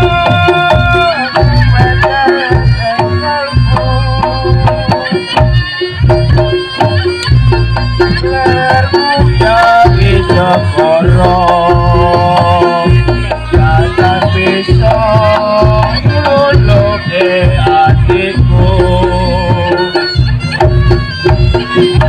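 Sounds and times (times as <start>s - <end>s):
hand drum strokes: 0.0s - 22.0s
held melody of long notes: 0.0s - 22.0s.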